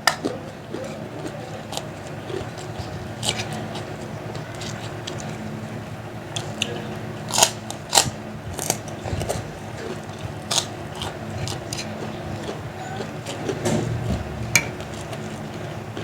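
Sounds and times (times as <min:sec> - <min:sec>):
crunchy crackers being chewed: 0:00.0 - 0:16.0
steady low hum: 0:00.0 - 0:16.0.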